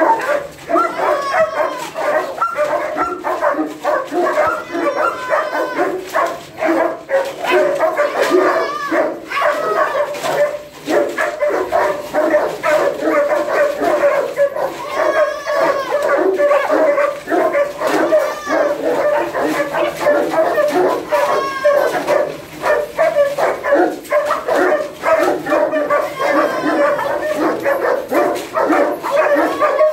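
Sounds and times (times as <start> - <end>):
dogs barking yelping and whining: 0.0 - 29.9.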